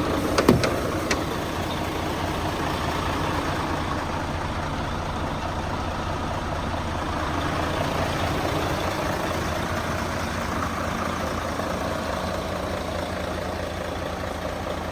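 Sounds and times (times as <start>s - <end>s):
truck diesel engine idling: 0.0s - 14.9s.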